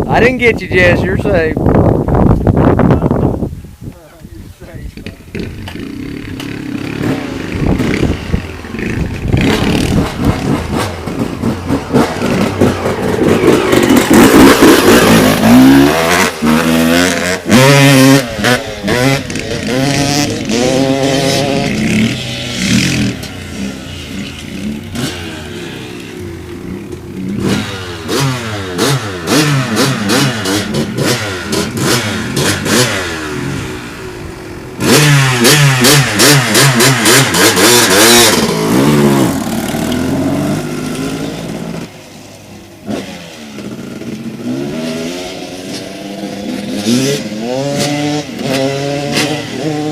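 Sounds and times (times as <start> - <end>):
dirt bike engine revving: 4.9 - 42.0, 42.8 - 49.9.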